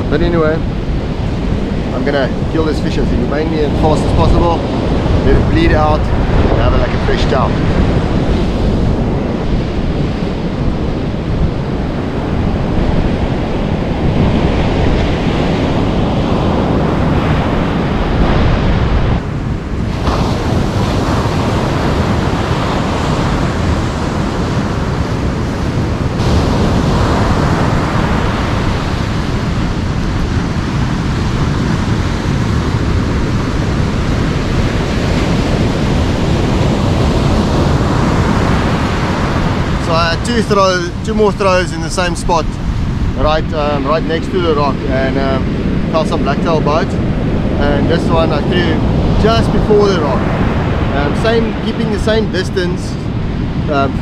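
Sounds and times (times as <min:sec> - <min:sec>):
ocean surf breaking on beach: 0:00.0 - 0:54.0
wind buffeting microphone: 0:00.0 - 0:54.0.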